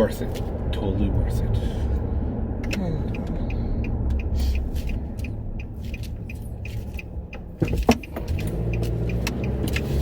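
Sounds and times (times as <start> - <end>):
road noise inside car: 0.0 - 10.0.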